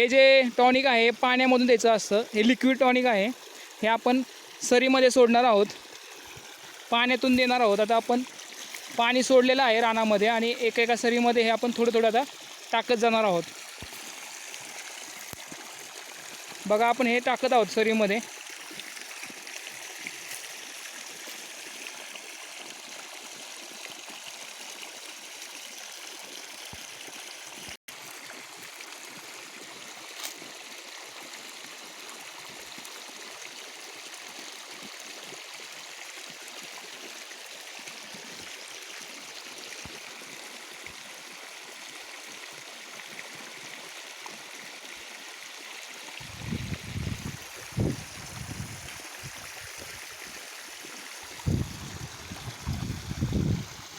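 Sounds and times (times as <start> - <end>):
water flowing along a furrow: 0.0 - 53.9.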